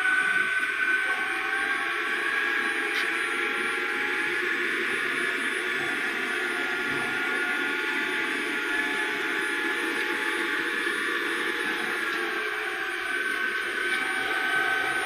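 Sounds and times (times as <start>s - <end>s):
electric ducted fan whine: 0.0s - 15.0s.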